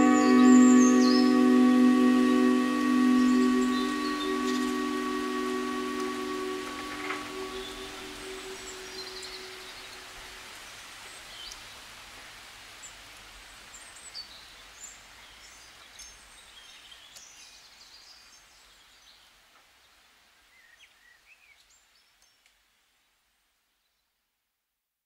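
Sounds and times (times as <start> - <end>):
steady outdoor hiss: 0.0 - 24.4.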